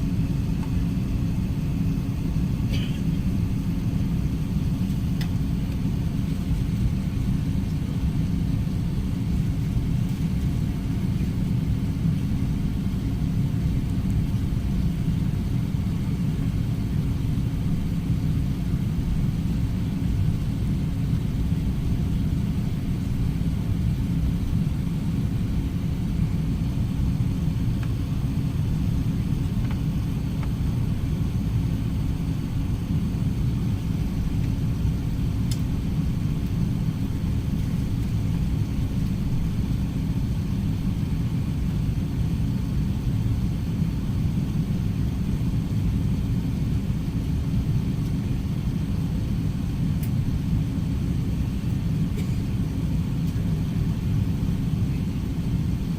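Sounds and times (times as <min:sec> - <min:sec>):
jet cabin rumble: 0:00.0 - 0:55.9.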